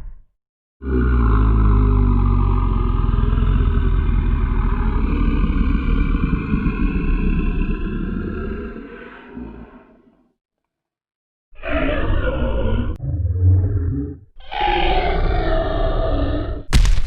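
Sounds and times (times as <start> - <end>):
low rattling monster growl: 0.8 - 10.2, 11.6 - 17.0.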